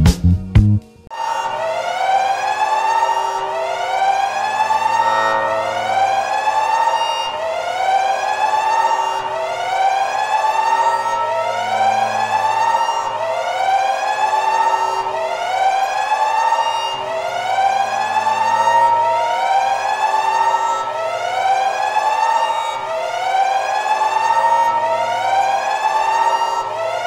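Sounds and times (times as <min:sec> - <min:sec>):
electronic siren wail: 0:01.1 - 0:27.0
steady drone: 0:01.1 - 0:27.0.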